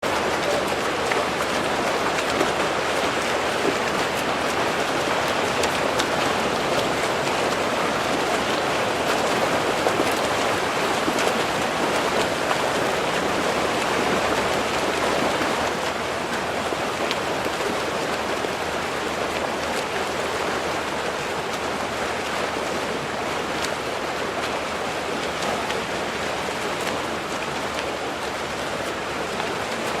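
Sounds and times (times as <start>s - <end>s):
swimmers splashing water: 0.0s - 30.0s.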